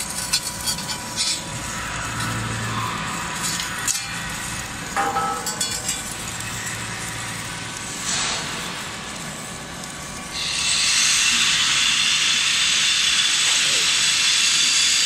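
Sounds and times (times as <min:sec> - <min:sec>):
loud steady hiss: 0:01.4 - 0:15.0.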